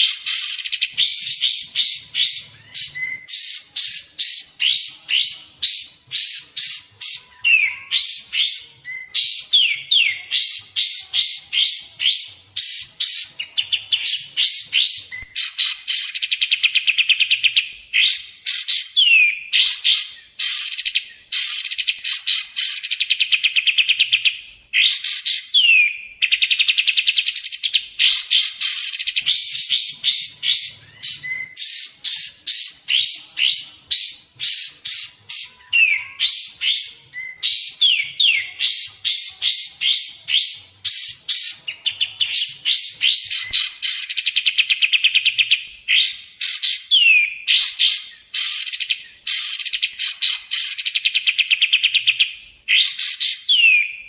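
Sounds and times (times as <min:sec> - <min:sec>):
bird chipping: 0:00.0 - 0:54.0.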